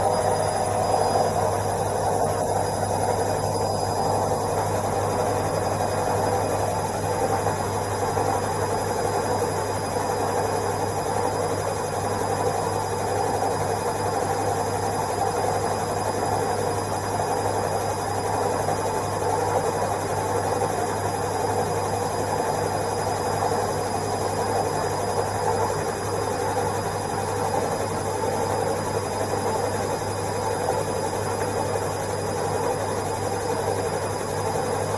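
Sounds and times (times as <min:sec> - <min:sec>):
washing machine spinning: 0:00.0 - 0:34.9.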